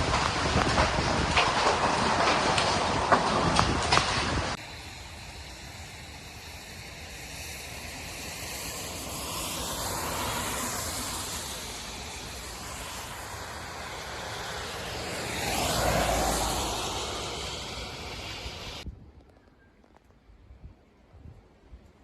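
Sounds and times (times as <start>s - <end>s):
rain: 0.0s - 20.2s
storm wind: 0.0s - 22.0s.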